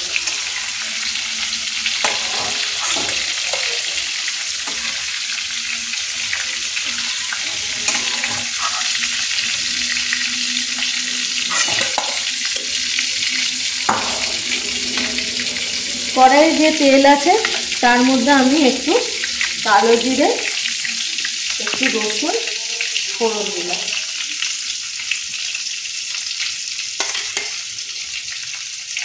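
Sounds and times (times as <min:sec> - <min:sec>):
prawns sizzling in hot oil: 0:00.0 - 0:29.0.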